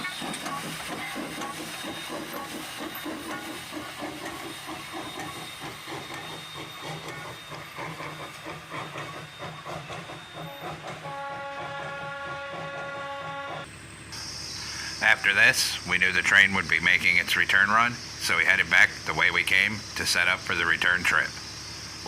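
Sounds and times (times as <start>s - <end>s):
steam hissing: 0.0s - 13.5s, 14.1s - 22.0s
locomotive exhaust and wheels clattering: 0.0s - 22.0s.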